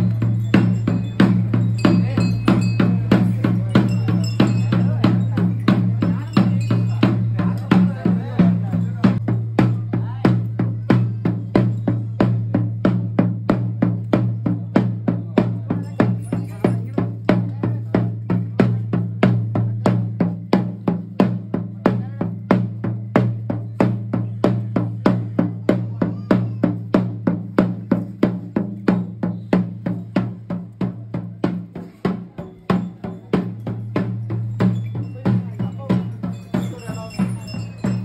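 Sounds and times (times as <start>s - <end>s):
drum-led music: 0.0s - 38.0s.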